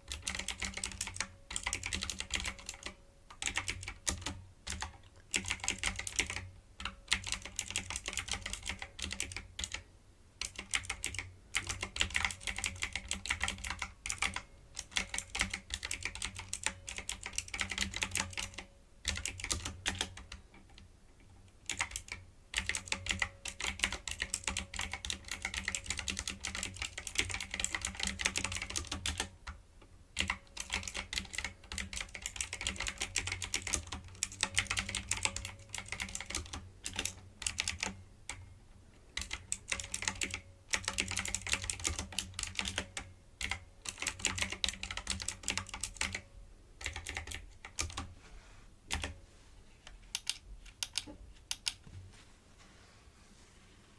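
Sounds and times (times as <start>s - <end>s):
mechanical keyboard typing: 0.0s - 9.8s, 10.4s - 20.8s, 21.6s - 29.6s, 30.2s - 38.4s, 39.1s - 48.1s, 48.9s - 49.2s, 50.1s - 51.8s.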